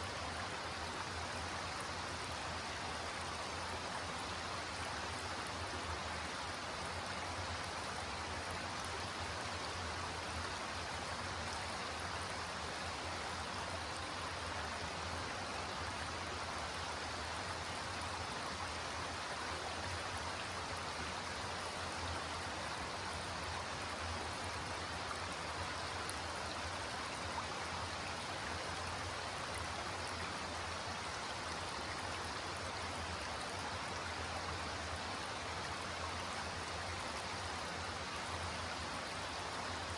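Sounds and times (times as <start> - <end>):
creek water rippling over rocks: 0.0 - 39.9.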